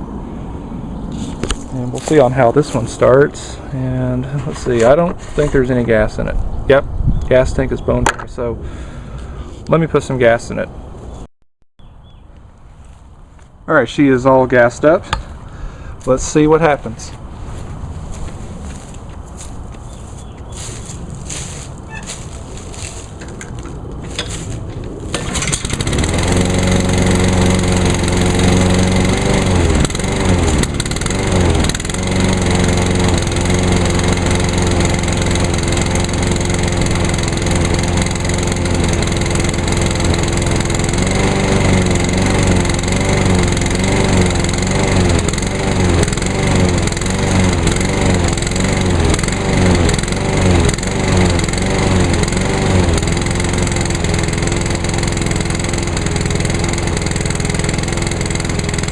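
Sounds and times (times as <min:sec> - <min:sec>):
lawn mower engine running: 0:01.1 - 0:05.8, 0:15.1 - 0:58.9.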